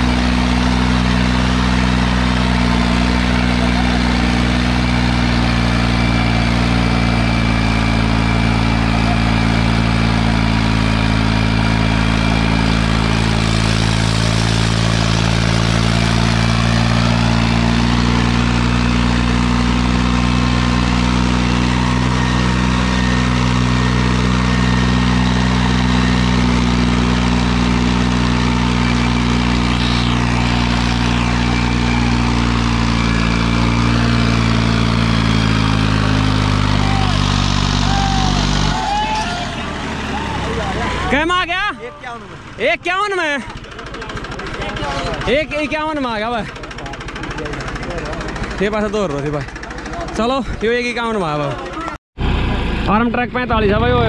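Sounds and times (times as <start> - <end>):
tractor diesel engine drone: 0.0 - 54.0.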